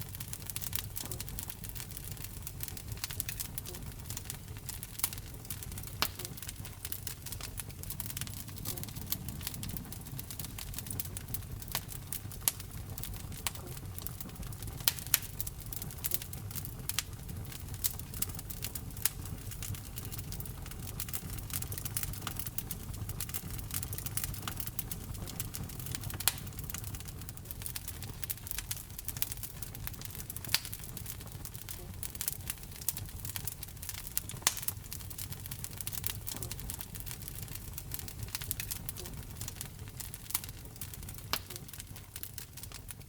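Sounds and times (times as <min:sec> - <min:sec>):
fire crackles and pops: 0:00.0 - 0:43.0
low rumble of flames: 0:00.0 - 0:43.0.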